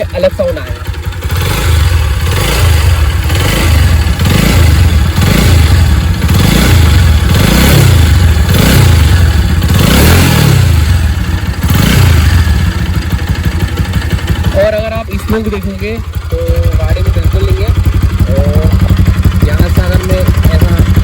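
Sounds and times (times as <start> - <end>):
engine clatter: 0.0 - 21.0
motorcycle engine revving: 0.0 - 21.0.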